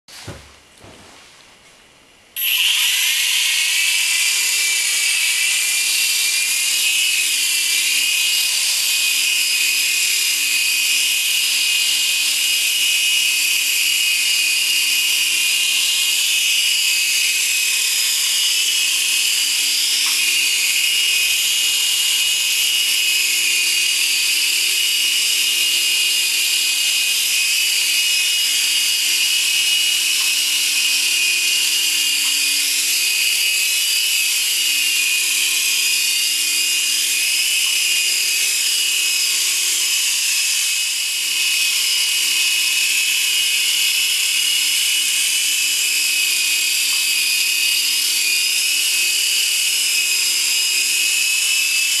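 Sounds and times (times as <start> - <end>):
micro helicopter motor whine: 2.4 - 52.0.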